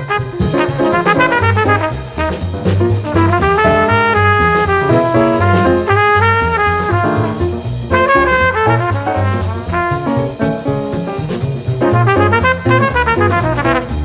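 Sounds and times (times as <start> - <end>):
jazz brass melody: 0.0 - 14.0
low bass line: 0.0 - 14.0.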